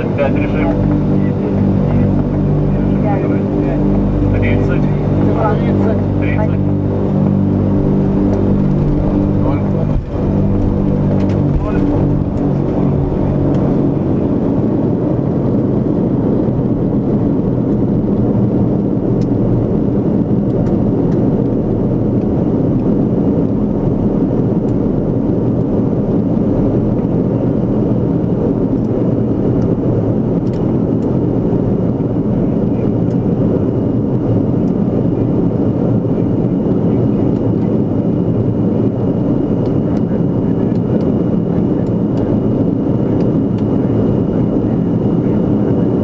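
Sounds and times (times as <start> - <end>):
turboprop engines droning: 0.0 - 46.0.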